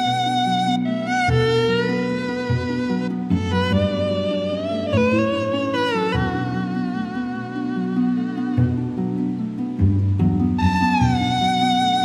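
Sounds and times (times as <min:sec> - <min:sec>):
instrumental music with low held notes: 0:00.0 - 0:12.0.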